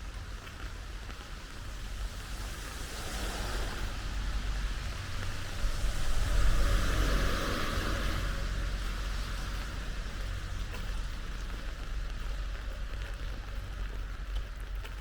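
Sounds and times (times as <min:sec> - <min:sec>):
steady rain: 0:00.0 - 0:15.0
tyres hissing on wet road: 0:00.0 - 0:15.0.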